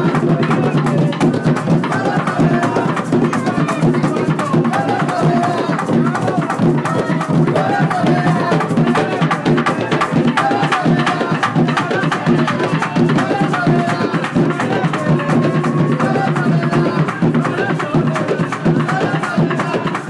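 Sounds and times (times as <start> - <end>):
music with drums and percussion: 0.0 - 20.0.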